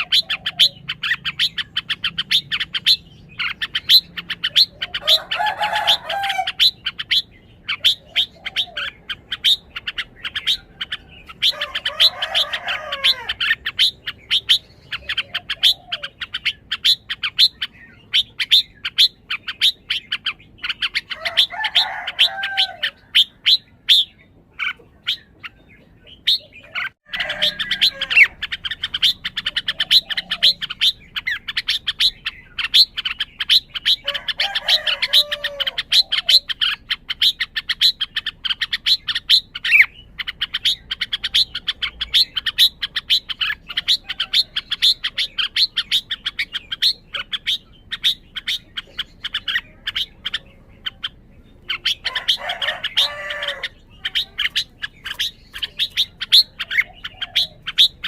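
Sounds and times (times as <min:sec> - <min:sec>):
bird chirping and warbling: 0:00.0 - 0:58.0.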